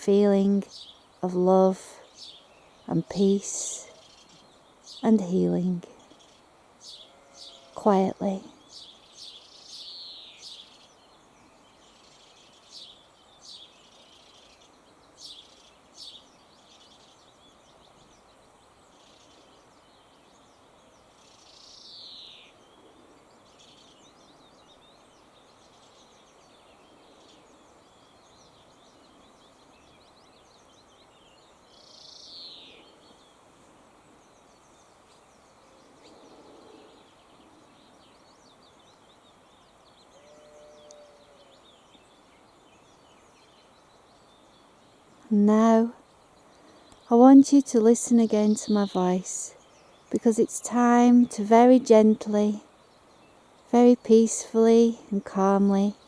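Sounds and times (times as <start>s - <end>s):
faint birdsong chirps: 0.0s - 56.0s
soft steady hiss: 0.0s - 56.0s.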